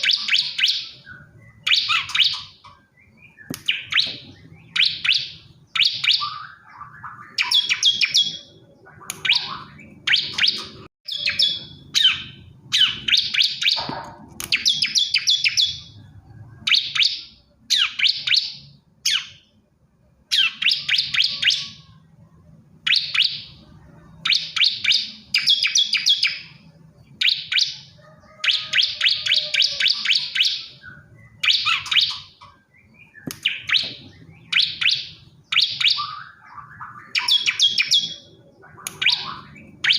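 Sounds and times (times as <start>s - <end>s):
bird high chattering song: 0.0s - 19.6s, 20.2s - 22.2s, 22.8s - 39.9s.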